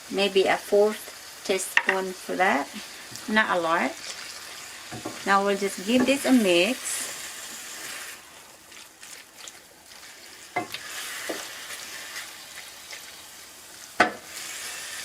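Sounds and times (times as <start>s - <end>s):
chicken sizzling in a frying pan: 0.0s - 15.0s.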